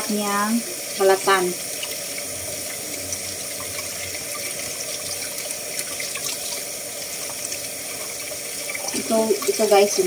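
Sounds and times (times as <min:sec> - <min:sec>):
tap water running into pot: 0:00.0 - 0:10.0.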